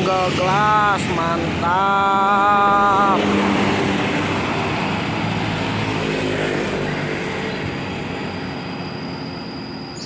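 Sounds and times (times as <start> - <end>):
diesel bus engine drone: 0.0 - 10.0.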